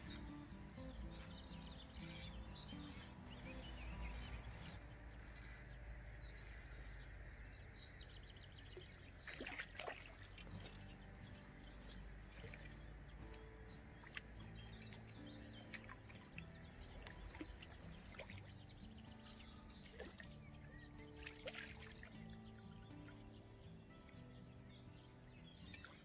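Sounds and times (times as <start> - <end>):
bird chirps: 0.0 - 26.0
soft background music: 0.0 - 26.0.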